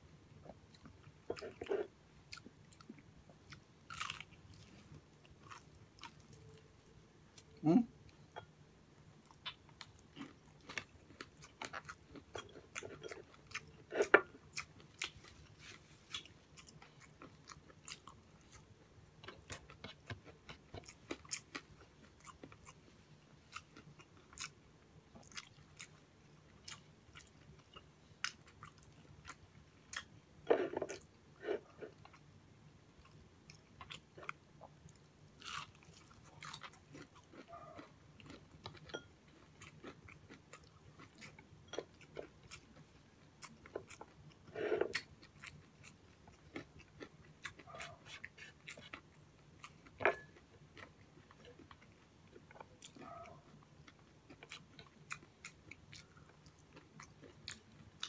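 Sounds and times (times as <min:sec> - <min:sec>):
chewing crunchy fried food: 0:00.4 - 0:08.3, 0:09.2 - 0:32.3, 0:33.0 - 0:58.0.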